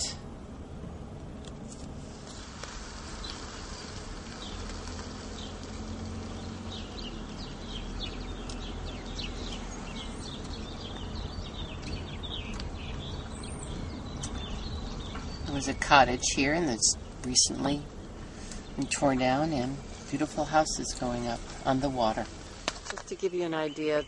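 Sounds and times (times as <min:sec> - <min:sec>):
car interior rumble: 0:00.0 - 0:24.0
birds chirping: 0:02.2 - 0:24.0.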